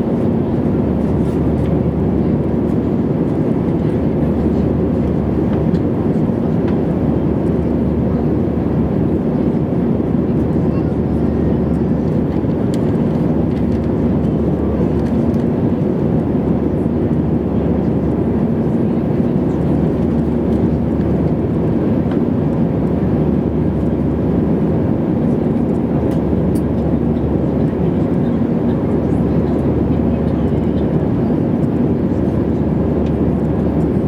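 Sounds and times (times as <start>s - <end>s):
airliner cabin noise: 0.0s - 34.0s.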